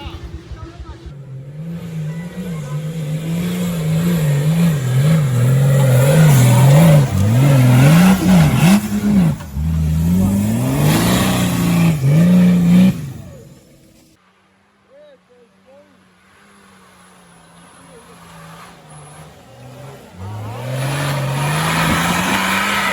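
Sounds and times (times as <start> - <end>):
off-road vehicle engine revving: 0.0 - 14.2, 16.2 - 22.9.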